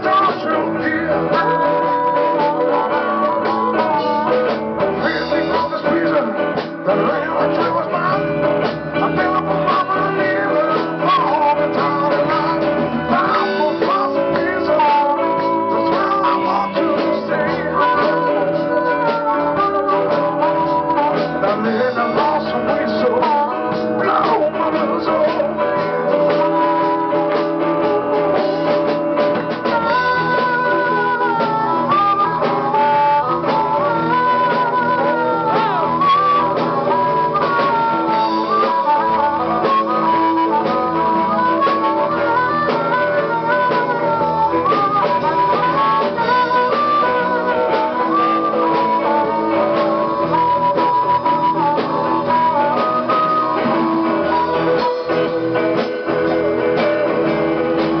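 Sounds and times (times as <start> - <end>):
live blues band playing: 0.0 - 58.0.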